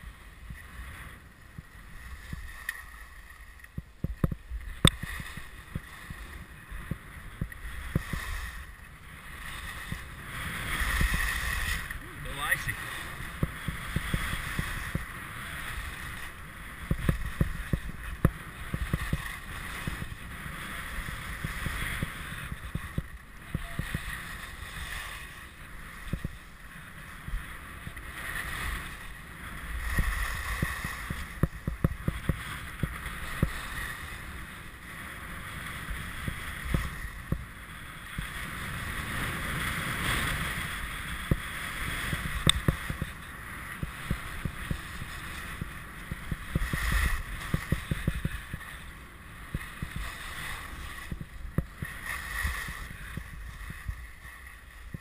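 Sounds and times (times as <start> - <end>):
skis scraping over snow: 0.0 - 55.0
wind noise on microphone: 0.0 - 55.0.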